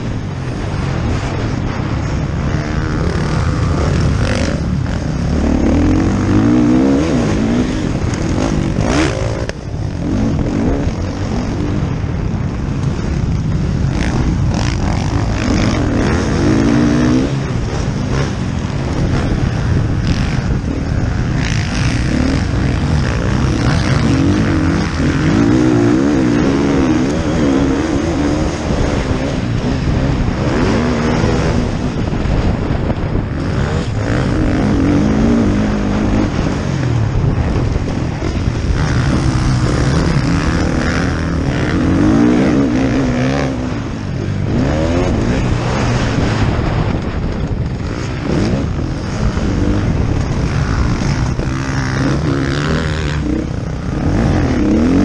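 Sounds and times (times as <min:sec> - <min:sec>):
motocross bike engine revving: 0:00.0 - 0:55.0
other motorbikes: 0:00.0 - 0:55.0.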